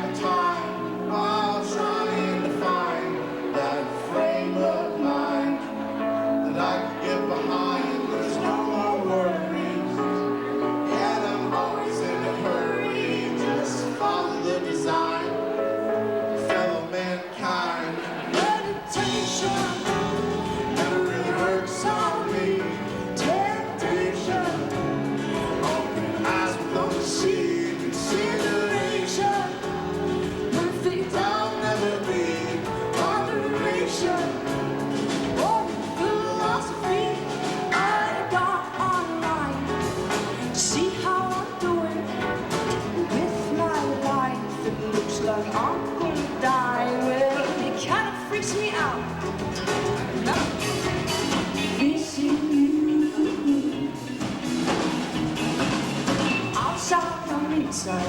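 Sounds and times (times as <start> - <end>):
person singing: 0.0 - 54.9, 56.4 - 58.0
bass: 0.0 - 58.0
drums: 0.0 - 58.0
live band music: 0.0 - 58.0.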